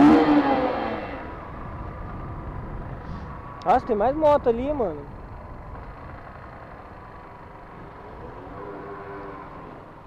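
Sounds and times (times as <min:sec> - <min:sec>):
motorcycle engine rumble: 0:00.0 - 0:10.0
wind: 0:00.0 - 0:10.0.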